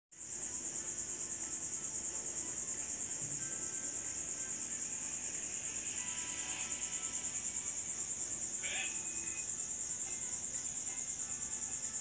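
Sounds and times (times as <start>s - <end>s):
insect trill: 0.2s - 12.0s.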